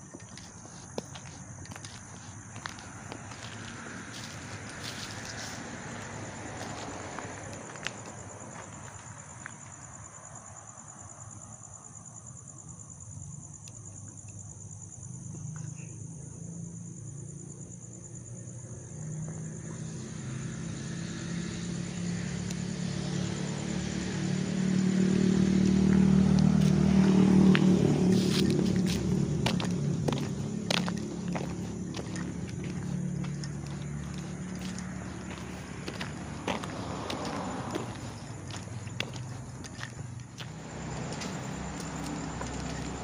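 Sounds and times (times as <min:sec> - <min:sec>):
road vehicle passing by: 0:00.3 - 0:10.7, 0:16.6 - 0:43.0.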